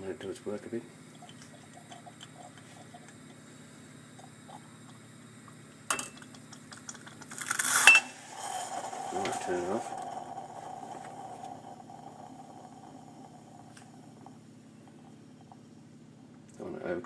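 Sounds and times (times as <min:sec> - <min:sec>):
coffee hissing up spout: 0:00.0 - 0:16.5
faint steady hum: 0:00.0 - 0:17.0.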